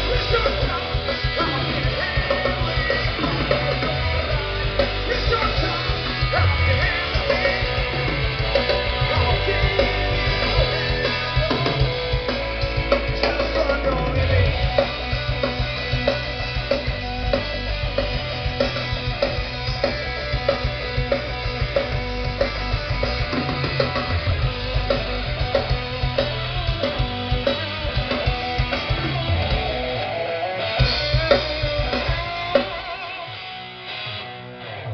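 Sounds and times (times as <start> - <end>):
bass guitar: 0.0 - 34.9
drums: 0.0 - 34.9
electric guitar: 0.0 - 34.9.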